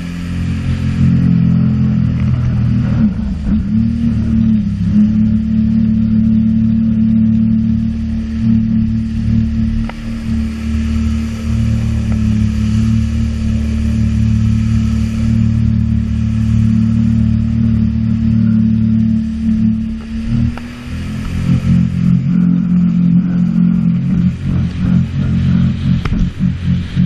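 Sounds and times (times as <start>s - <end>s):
jet ski engine running: 0.0s - 27.0s.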